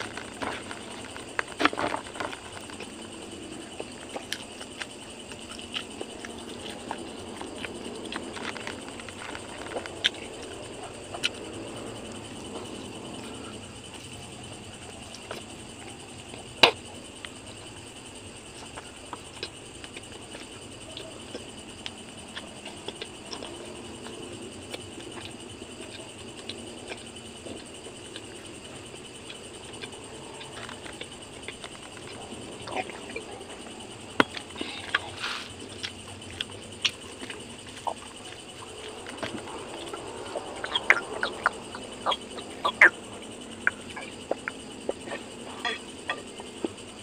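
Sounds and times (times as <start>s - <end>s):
crickets chirring: 0.0s - 47.0s
person chewing and smacking: 0.0s - 47.0s.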